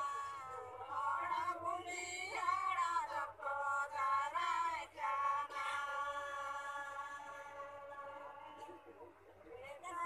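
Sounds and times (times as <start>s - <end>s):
chant-like singing: 0.0s - 10.0s.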